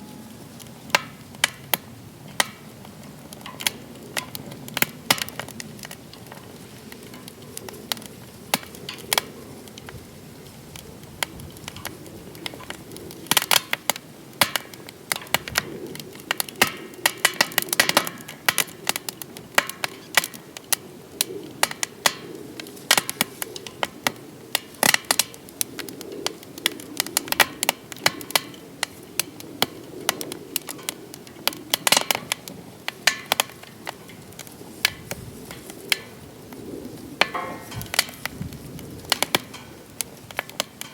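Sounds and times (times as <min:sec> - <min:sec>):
low rush of flames: 0:00.0 - 0:40.9
wood fire crackling and popping: 0:00.0 - 0:40.9.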